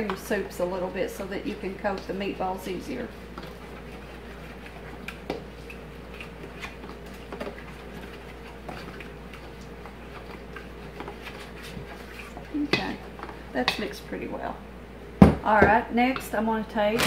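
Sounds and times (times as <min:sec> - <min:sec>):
spatula scraping in a metal bowl: 0:00.0 - 0:14.0.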